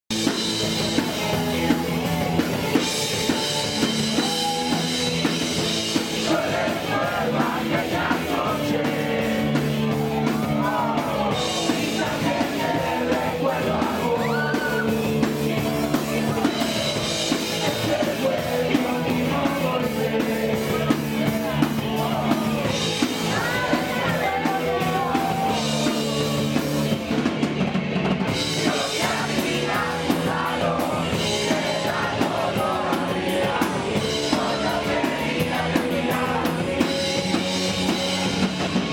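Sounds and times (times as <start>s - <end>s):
drum kit: 0.0s - 38.9s
electric guitar: 0.1s - 38.9s
sung and shouted vocals: 3.0s - 27.0s, 28.4s - 38.9s.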